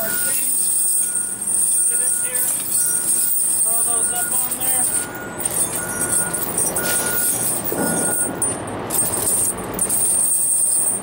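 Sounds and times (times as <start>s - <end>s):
heavy chain clatter: 0.0s - 11.0s
tire chains clinking and rattling: 0.0s - 11.0s.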